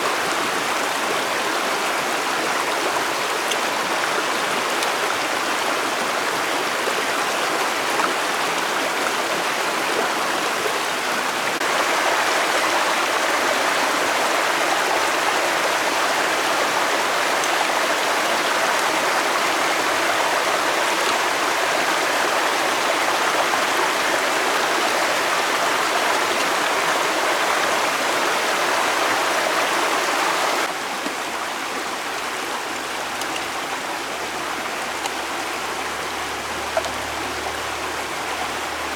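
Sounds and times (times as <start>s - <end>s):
floodwater rushing in a stream: 0.0s - 38.9s.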